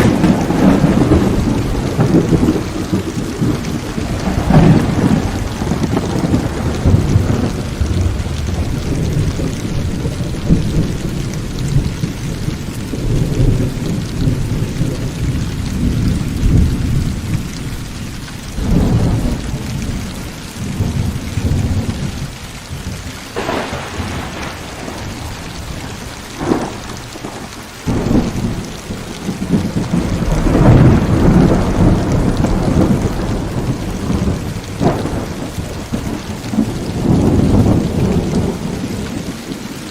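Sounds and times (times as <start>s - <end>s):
sharp thunder cracks: 0.0s - 17.4s, 23.3s - 39.6s
heavy rain falling: 0.0s - 39.9s
rolling thunder: 0.0s - 39.9s.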